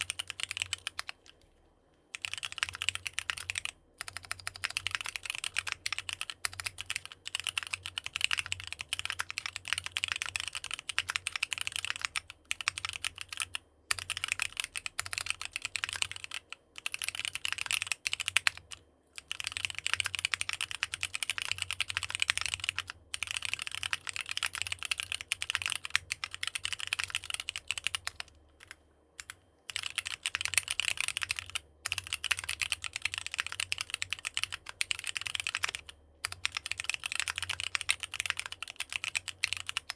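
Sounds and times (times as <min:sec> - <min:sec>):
mechanical keyboard typing: 0:00.0 - 0:01.5, 0:02.1 - 0:39.9.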